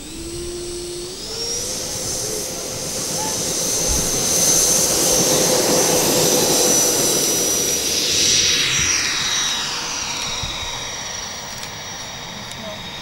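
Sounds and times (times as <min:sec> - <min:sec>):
model plane fans whining: 0:00.0 - 0:13.0.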